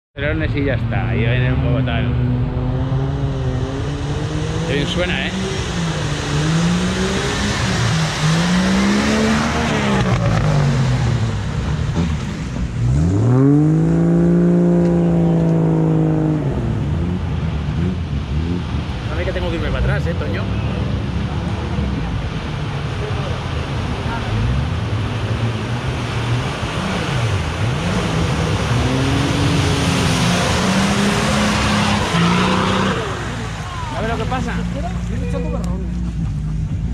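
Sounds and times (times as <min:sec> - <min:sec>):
off-road vehicle engine revving: 0:00.2 - 0:36.9
rushing churned water and mud: 0:01.1 - 0:36.9.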